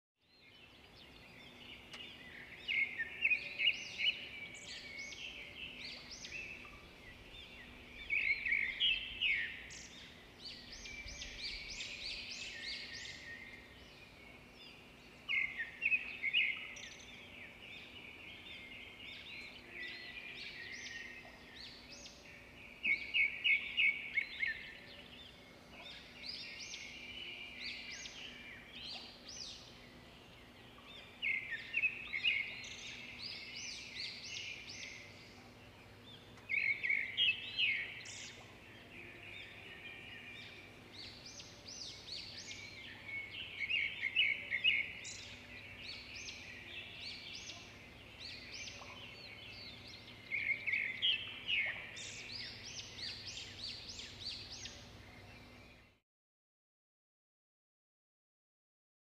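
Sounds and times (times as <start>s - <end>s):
small birds chirping and singing: 0.2s - 56.0s
faint steady hum: 0.5s - 56.0s.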